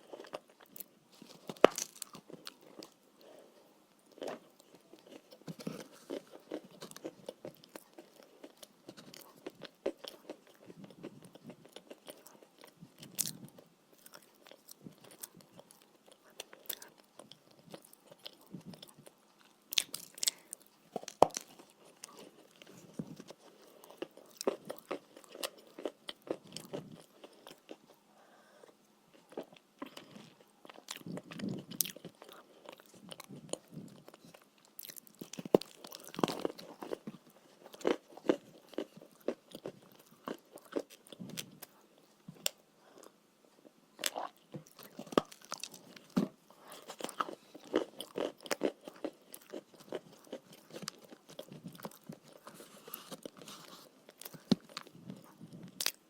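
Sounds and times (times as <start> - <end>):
soft chewing: 0.0 - 56.0.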